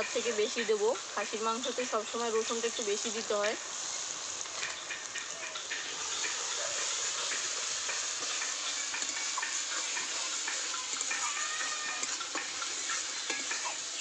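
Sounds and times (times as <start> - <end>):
spice paste sizzling in hot oil: 0.0 - 14.0.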